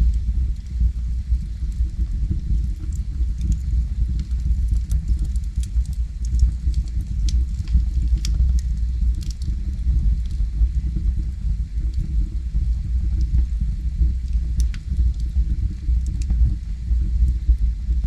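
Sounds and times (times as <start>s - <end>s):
fire crackling and popping: 0.0s - 18.0s
fire rumbling: 0.0s - 18.0s.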